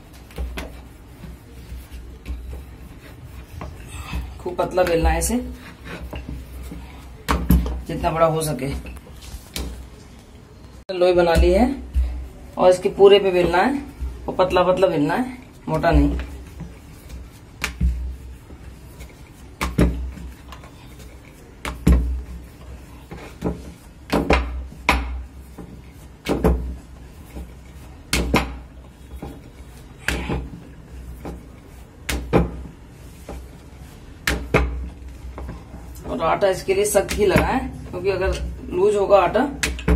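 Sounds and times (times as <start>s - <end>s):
rolling pin rolling dough: 0.0s - 10.1s, 10.9s - 39.9s.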